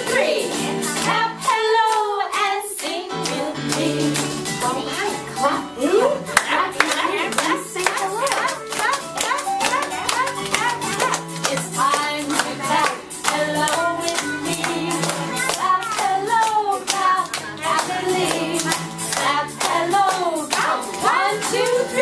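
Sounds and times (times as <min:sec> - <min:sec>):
people clapping along: 0:00.0 - 0:05.1, 0:06.3 - 0:22.0
voices singing a children's song: 0:00.0 - 0:22.0.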